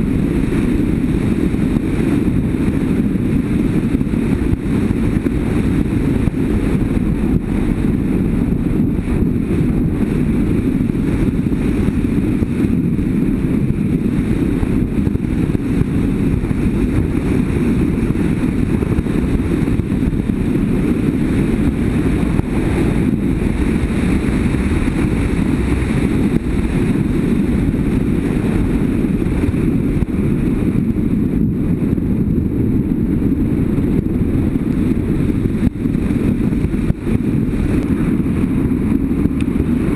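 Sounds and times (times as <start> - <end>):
motorcycle engine rumble: 0.0 - 39.9
wind noise on microphone: 0.0 - 39.9.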